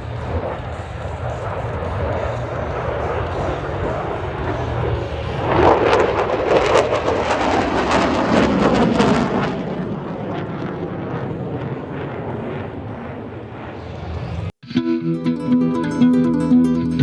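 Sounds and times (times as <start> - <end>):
fighter jet flying past: 0.0 - 14.5.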